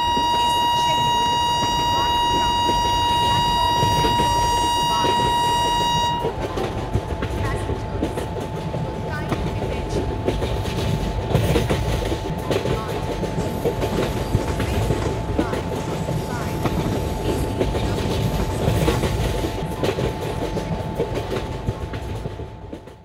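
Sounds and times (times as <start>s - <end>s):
steady whine: 0.0s - 22.8s
train wheels clattering: 0.0s - 23.0s.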